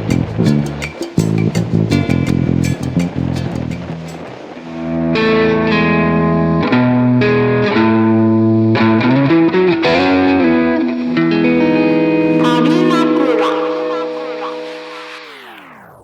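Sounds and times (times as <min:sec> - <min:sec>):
guitar background music: 0:00.0 - 0:16.0.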